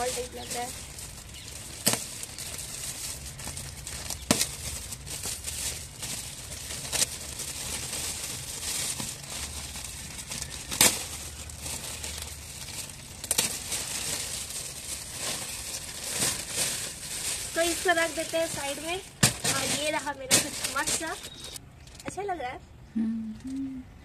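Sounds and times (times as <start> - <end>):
gift wrap crinkling: 0.0 - 22.1
wrapping snapping: 0.0 - 22.1.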